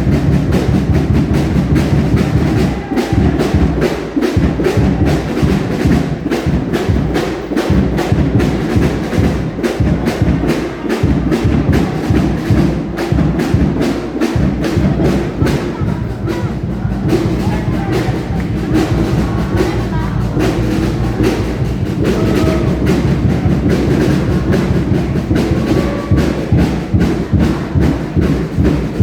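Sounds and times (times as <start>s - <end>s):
heavy low drum: 0.0s - 29.0s.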